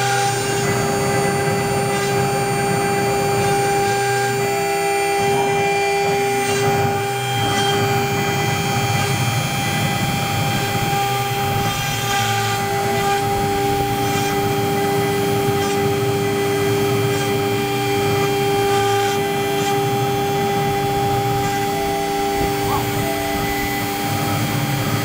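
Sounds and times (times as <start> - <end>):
bit rasping into wood: 0.0 - 25.0
router spindle whine: 0.0 - 25.0.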